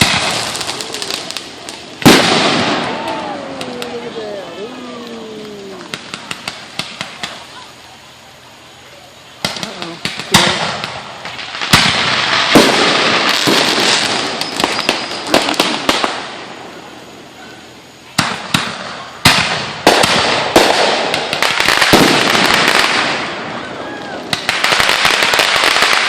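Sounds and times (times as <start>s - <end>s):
fireworks bangs: 0.0s - 7.9s, 9.2s - 26.0s
fireworks crackling: 0.0s - 26.0s.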